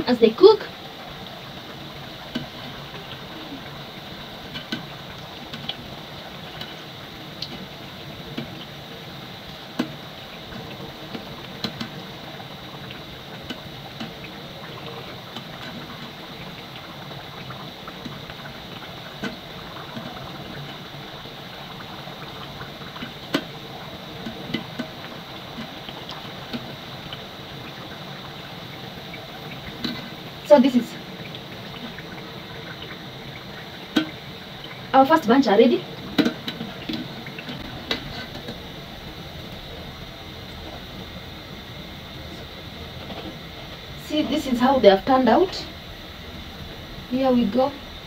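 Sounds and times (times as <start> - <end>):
oil sizzling and bubbling: 0.0 - 48.0.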